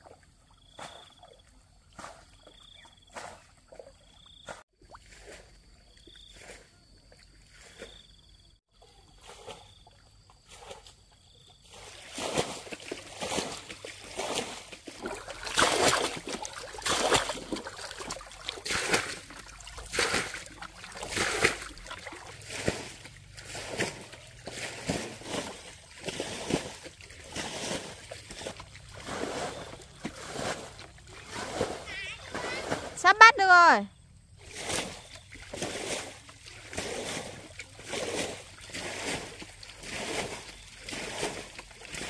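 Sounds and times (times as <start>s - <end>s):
pond water splashing: 0.0s - 42.0s.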